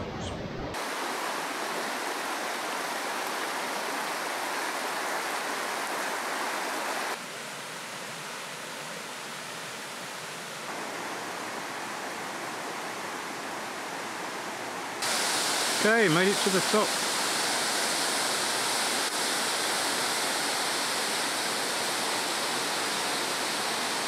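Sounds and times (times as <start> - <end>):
stream rushing over rocks: 0.8 - 24.0.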